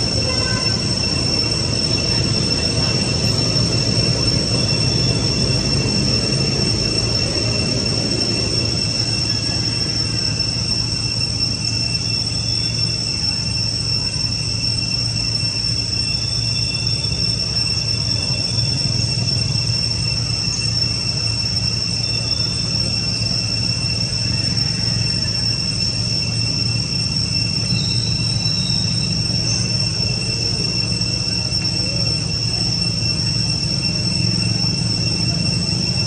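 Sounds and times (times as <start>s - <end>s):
high-pitched whine: 0.0s - 36.0s
insects droning: 0.0s - 36.0s.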